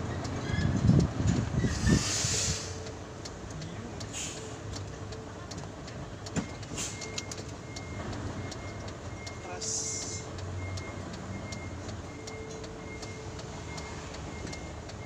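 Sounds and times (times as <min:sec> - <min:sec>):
diesel engine running at low speed: 0:00.0 - 0:15.0.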